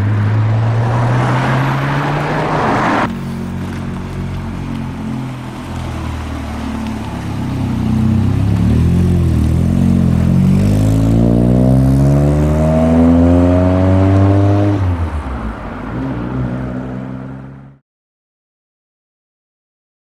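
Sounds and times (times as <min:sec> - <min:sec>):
car engine accelerating: 0:00.0 - 0:17.8.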